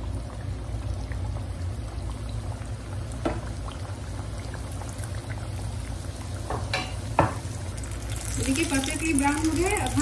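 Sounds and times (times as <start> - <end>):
oil bubbling and sizzling: 0.0 - 10.0.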